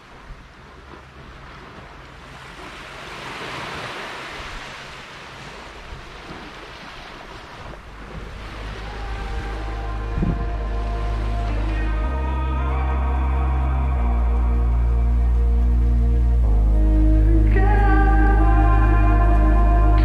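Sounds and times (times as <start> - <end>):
ocean waves: 0.0 - 20.0.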